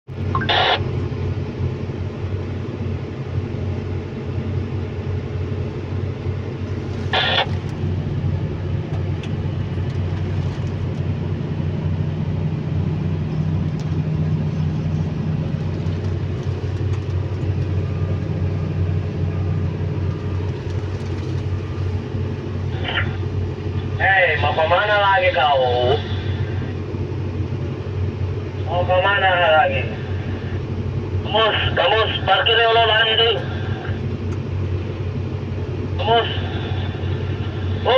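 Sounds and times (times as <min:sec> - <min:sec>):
diesel engine droning: 0:00.1 - 0:37.9.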